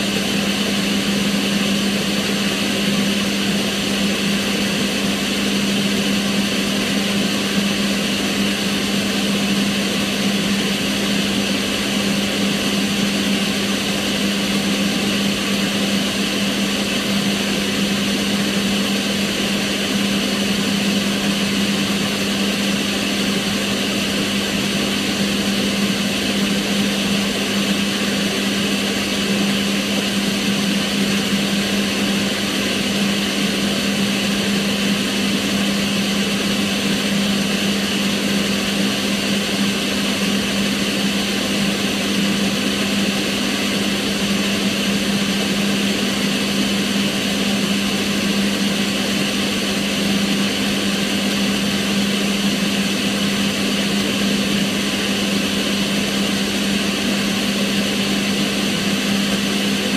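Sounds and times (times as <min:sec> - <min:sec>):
extractor fan running: 0:00.0 - 0:59.9.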